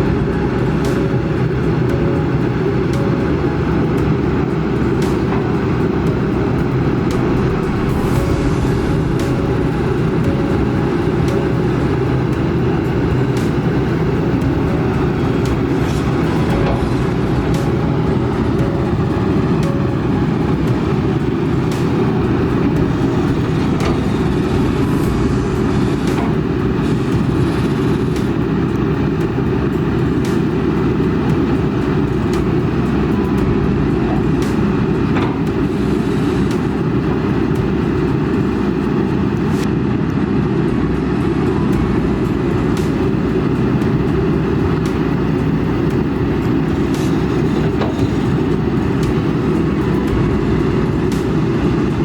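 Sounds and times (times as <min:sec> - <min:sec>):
excavator diesel engine rumbling: 0:00.0 - 0:52.0.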